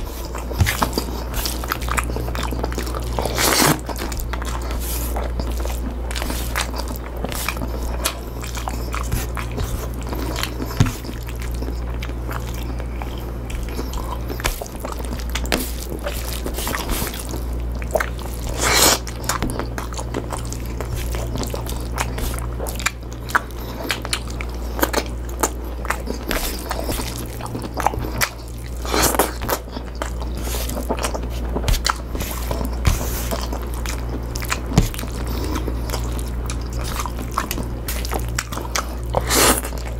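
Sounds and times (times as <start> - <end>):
steady low hum: 0.0 - 39.9
wet chewing and biting: 0.0 - 39.9.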